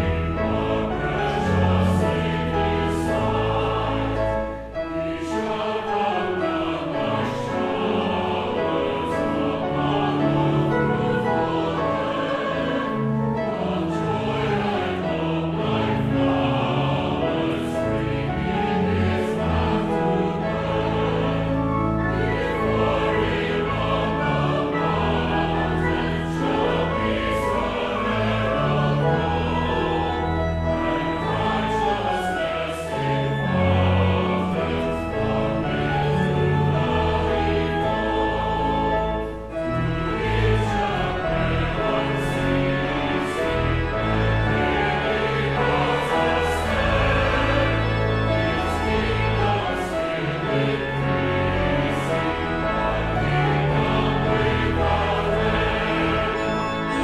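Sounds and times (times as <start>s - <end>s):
church choir singing a hymn: 0.0s - 57.0s
organ accompaniment: 0.0s - 57.0s.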